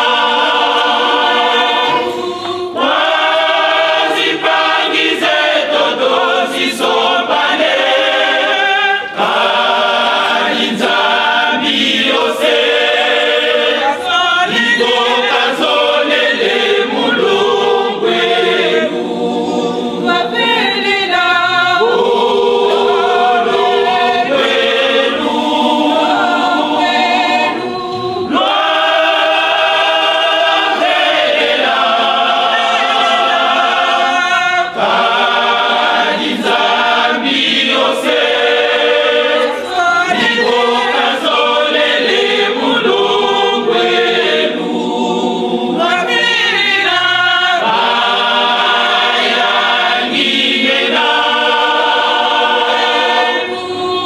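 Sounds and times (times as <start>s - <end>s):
women singing a hymn: 0.0s - 54.0s.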